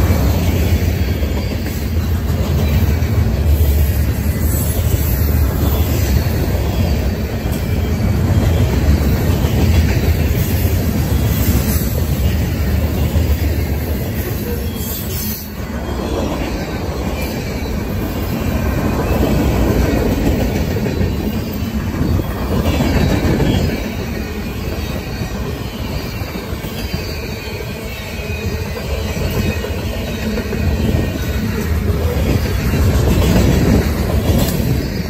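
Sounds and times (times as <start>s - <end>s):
freight train wheels on rail: 0.0s - 35.0s.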